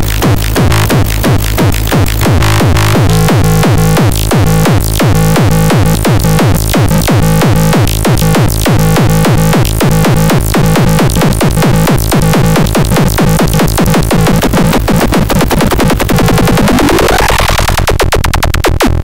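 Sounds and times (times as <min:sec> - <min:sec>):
held bass tone: 0:00.0 - 0:17.4
electronic techno pattern: 0:00.0 - 0:19.0.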